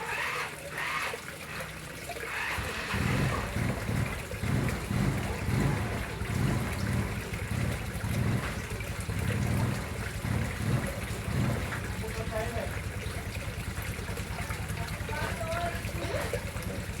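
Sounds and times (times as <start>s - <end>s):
water trickling into a pond: 0.0s - 17.0s.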